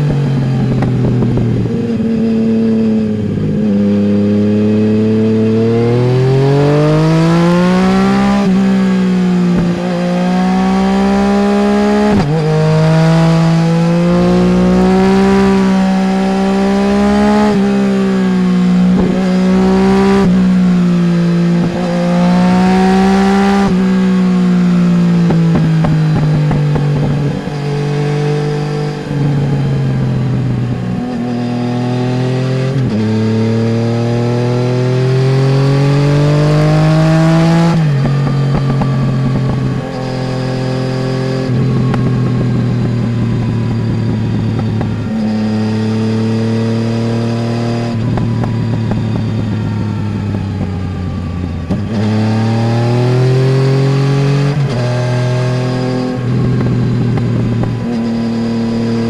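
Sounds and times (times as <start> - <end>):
motorcycle engine on the road: 0.0 - 59.0.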